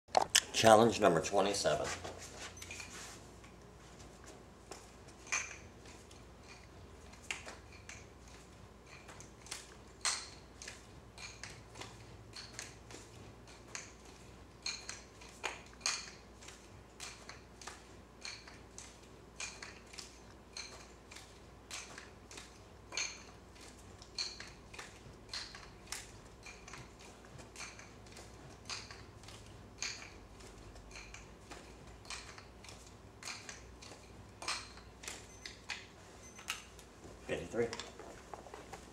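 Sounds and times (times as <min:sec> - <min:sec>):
wooden nunchaku clicking: 0:04.7 - 0:36.9.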